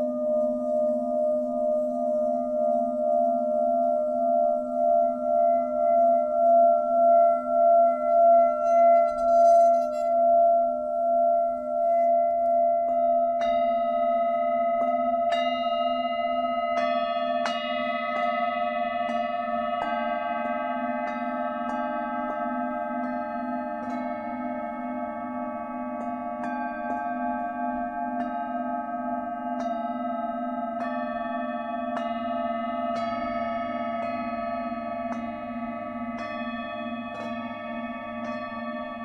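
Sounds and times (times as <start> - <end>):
singing bowl held tone: 0.0 - 39.0
singing bowls struck: 0.0 - 39.0.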